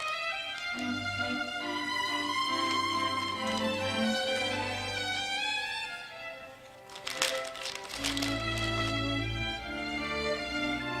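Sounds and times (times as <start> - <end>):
slow bowed strings music: 0.0 - 11.0.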